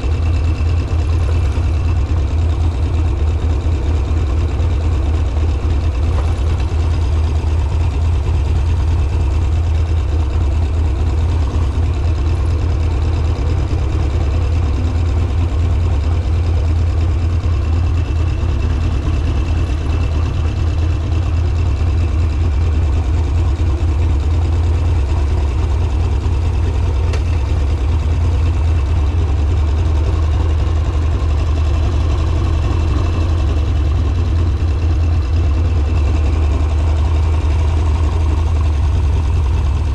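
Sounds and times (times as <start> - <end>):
motorcycle engine idling rumble: 0.0 - 39.9.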